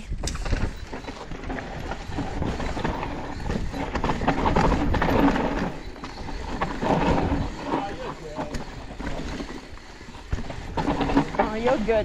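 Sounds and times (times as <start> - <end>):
bike rattling over rough trail: 0.0 - 12.0.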